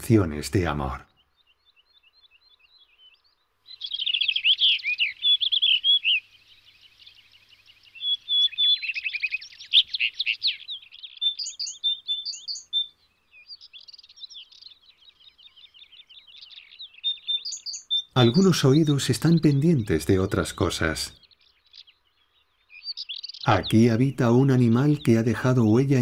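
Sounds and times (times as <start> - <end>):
bird singing warbled phrases: 0.0 - 26.0
bird twittering: 0.0 - 26.0.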